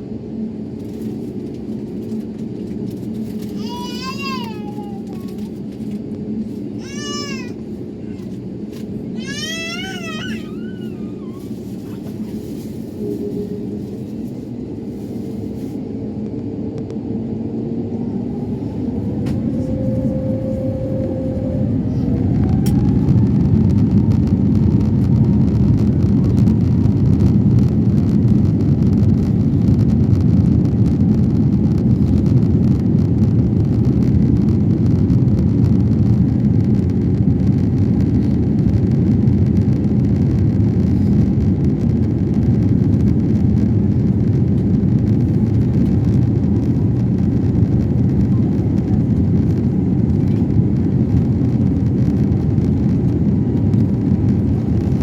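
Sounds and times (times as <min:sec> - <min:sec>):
jet engine and airflow noise: 0:00.0 - 0:55.0.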